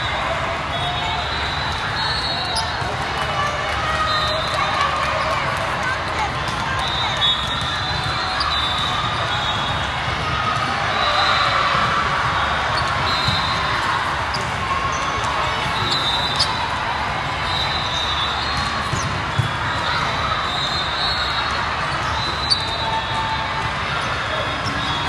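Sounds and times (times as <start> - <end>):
many voices in a hall: 0.0 - 25.0.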